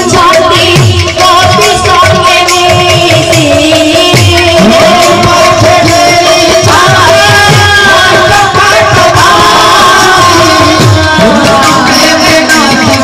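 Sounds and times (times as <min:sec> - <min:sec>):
person singing: 0:00.0 - 0:13.0.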